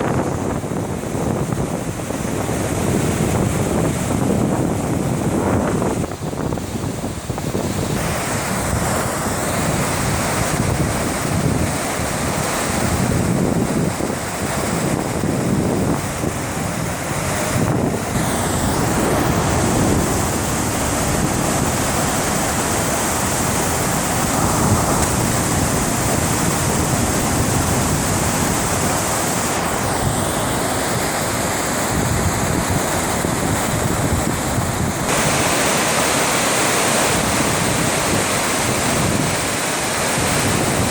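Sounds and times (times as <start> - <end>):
water pouring over a dam: 0.0 - 40.9
wind buffeting microphone: 0.0 - 40.9.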